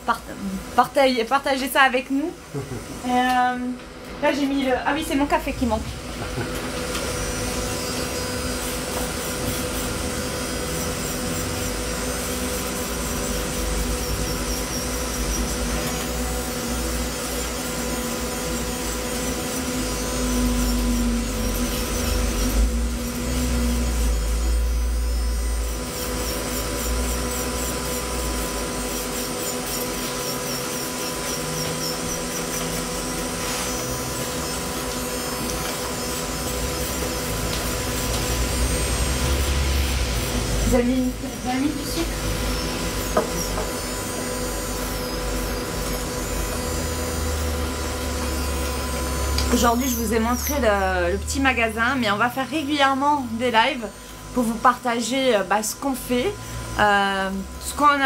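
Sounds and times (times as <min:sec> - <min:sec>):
electric nail drill whine: 0:00.0 - 0:58.0.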